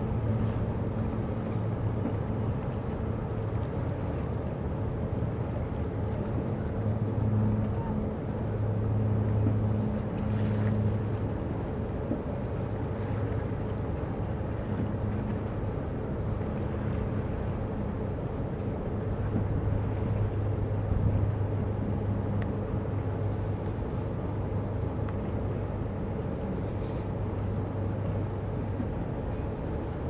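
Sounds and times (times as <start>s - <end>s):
boat engines humming: 0.0s - 30.0s
water and wind background: 0.0s - 30.0s.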